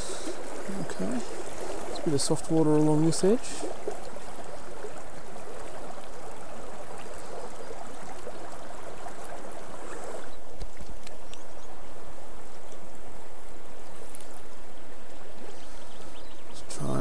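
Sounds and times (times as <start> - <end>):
river flowing over stones: 0.0 - 15.4.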